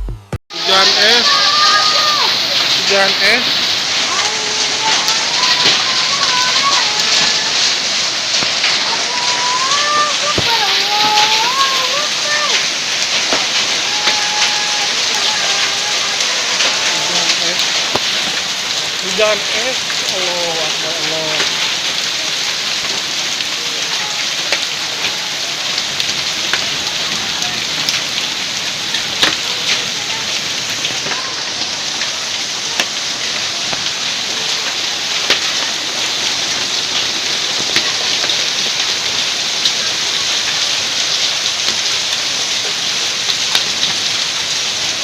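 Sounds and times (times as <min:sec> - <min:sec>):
heavy rain pouring: 0:00.5 - 0:45.0
hailstones striking hard surfaces: 0:00.6 - 0:45.0.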